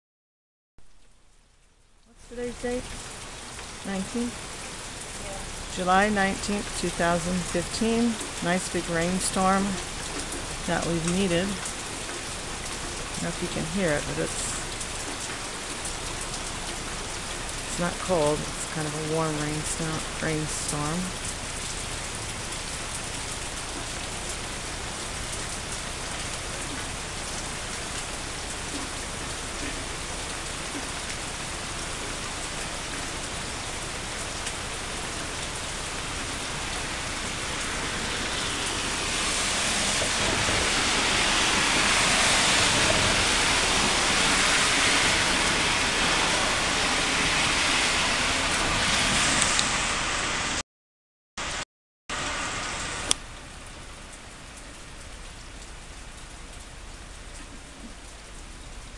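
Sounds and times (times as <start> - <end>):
heavy rainstorm: 0.8 - 50.6, 51.4 - 58.9.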